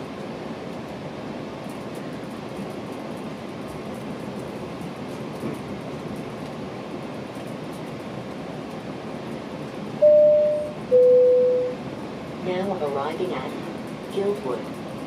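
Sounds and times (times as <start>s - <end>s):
train running on rails: 0.0s - 15.0s.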